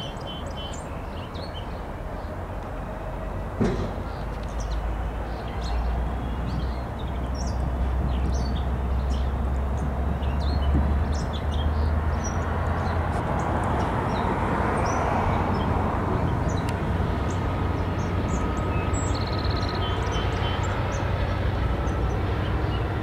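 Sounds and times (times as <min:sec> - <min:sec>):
birds chirping: 0:00.0 - 0:23.0
distant freight train rumble: 0:00.0 - 0:23.0.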